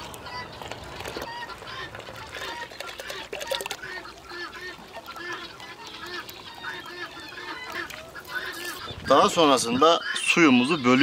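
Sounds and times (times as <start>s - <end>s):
poultry calling: 0.2s - 11.0s.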